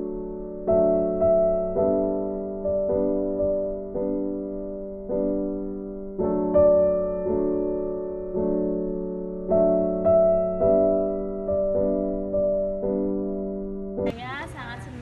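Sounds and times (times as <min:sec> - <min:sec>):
slow gentle piano chords: 0:00.0 - 0:14.2.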